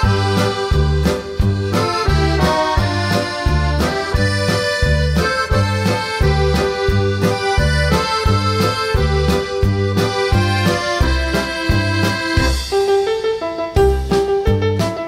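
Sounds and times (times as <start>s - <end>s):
steady bass beat: 0.0s - 12.8s
held melody notes: 0.0s - 13.5s.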